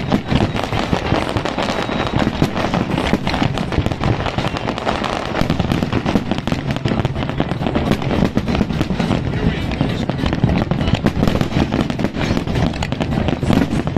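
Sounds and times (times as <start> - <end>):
fireworks shells bursting: 0.0 - 13.9.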